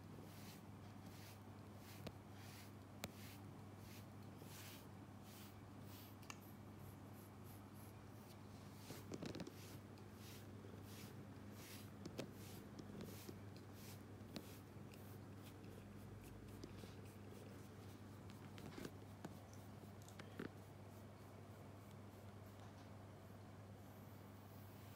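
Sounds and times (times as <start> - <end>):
brush rasping through fur: 0.2 - 22.6.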